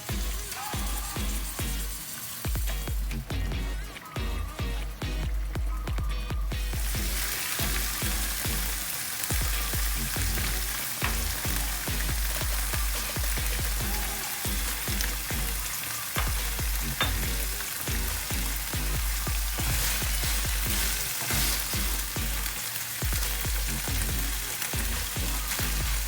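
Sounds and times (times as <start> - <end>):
food sizzling in a pan: 0.0 - 26.0
music with bass beat: 0.0 - 26.0.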